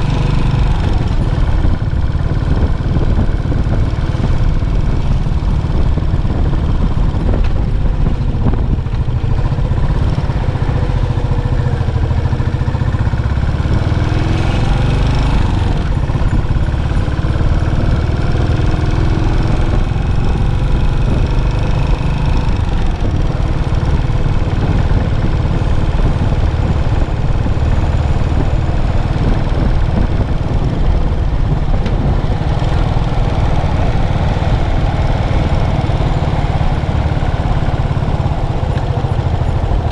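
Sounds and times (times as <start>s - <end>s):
motorcycle engine thumping: 0.2s - 13.4s, 19.4s - 39.8s.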